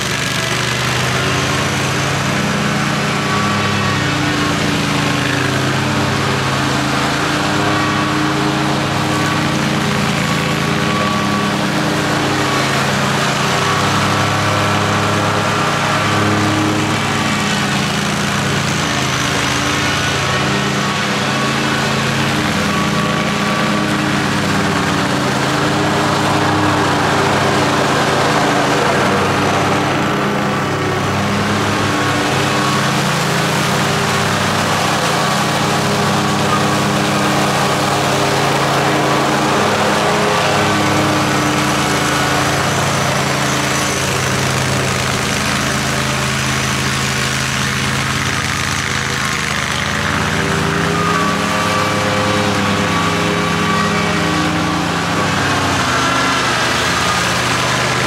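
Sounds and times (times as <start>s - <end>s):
cutting deck rushing: 0.0s - 58.0s
riding mower running: 0.0s - 58.0s.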